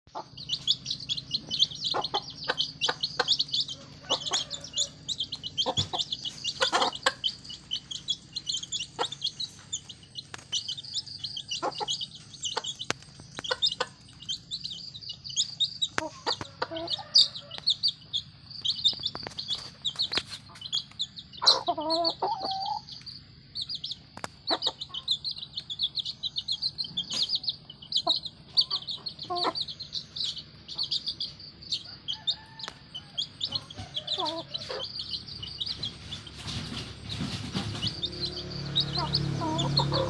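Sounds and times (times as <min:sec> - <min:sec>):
chicken clucking: 0:00.1 - 0:40.0
chicks peeping: 0:00.1 - 0:40.0.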